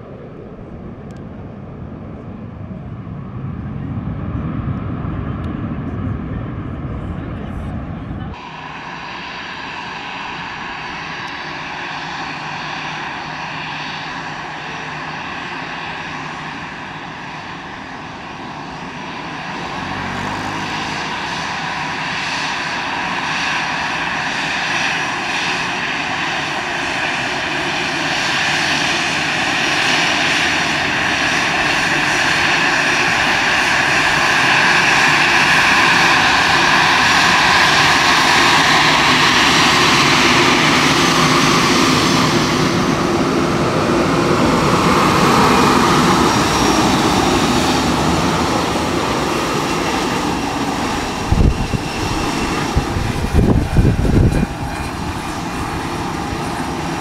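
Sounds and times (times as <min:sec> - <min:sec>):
airliner engines whining: 0:00.0 - 0:57.0.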